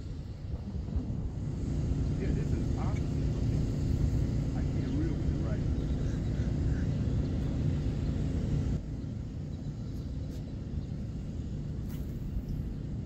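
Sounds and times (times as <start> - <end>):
low rumbling outdoor noise: 0.0 - 13.0.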